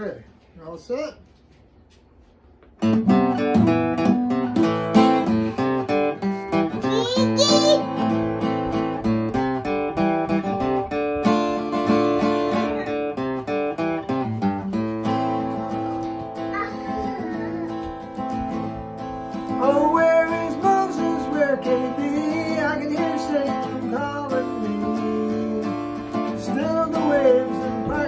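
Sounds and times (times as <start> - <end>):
acoustic guitar strumming chords: 2.8 - 28.0.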